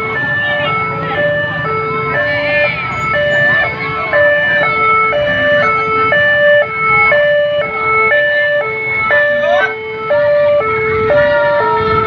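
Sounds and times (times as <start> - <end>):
two-tone siren: 0.0 - 12.0.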